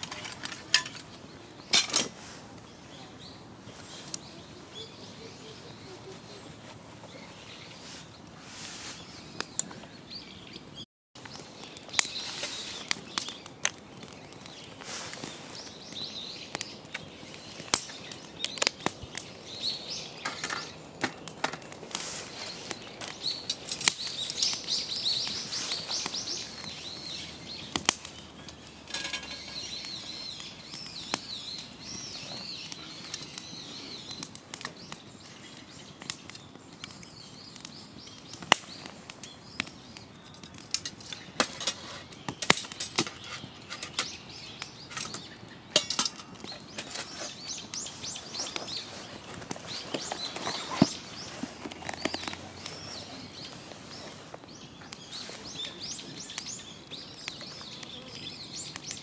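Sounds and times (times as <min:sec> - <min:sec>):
wood fire crackling and popping: 0:00.0 - 0:10.6, 0:11.2 - 0:59.0
small birds chirping: 0:00.0 - 0:59.0.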